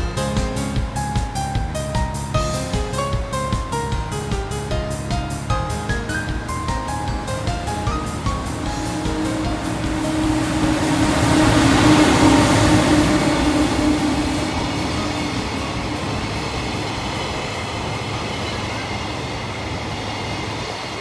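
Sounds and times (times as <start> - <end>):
electric locomotive hum: 0.0 - 21.0
train wheels rolling on rails: 0.0 - 21.0.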